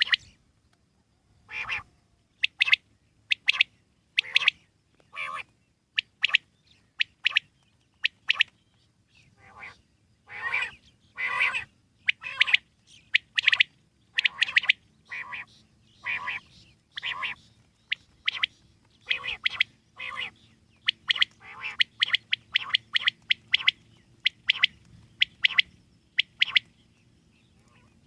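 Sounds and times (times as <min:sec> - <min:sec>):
quail calling: 0:00.0 - 0:00.3, 0:01.5 - 0:08.6, 0:09.4 - 0:26.7.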